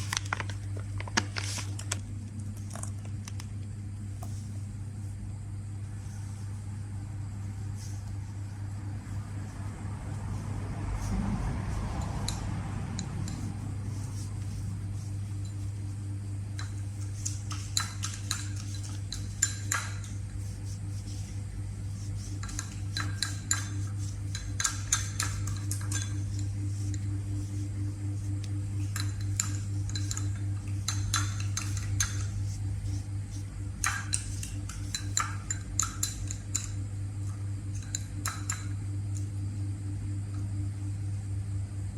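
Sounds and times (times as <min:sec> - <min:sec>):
low hum: 0:02.0 - 0:41.9.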